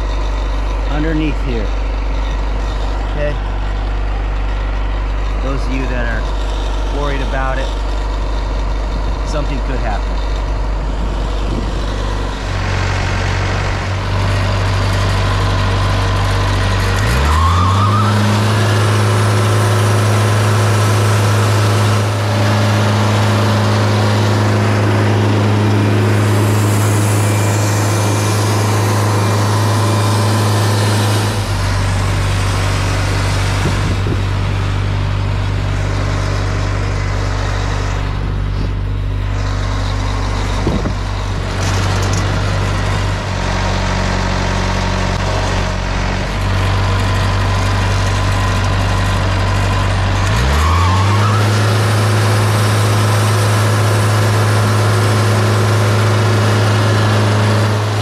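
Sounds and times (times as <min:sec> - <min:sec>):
sawmill engine revving: 0:00.0 - 0:58.0.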